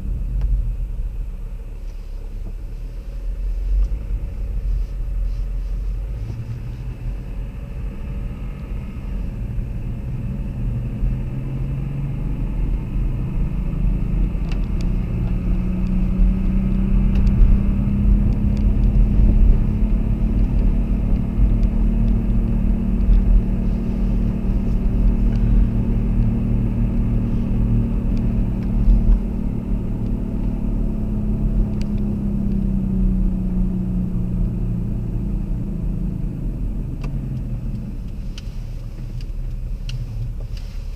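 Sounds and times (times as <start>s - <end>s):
car engine hum: 0.0s - 40.9s
road rumble: 0.0s - 40.9s.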